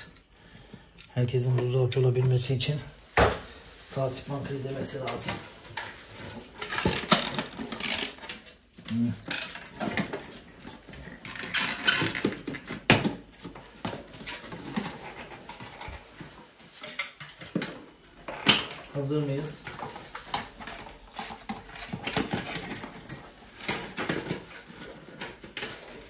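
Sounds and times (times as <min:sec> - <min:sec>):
plastic parts and tools clattering: 0:00.0 - 0:26.0.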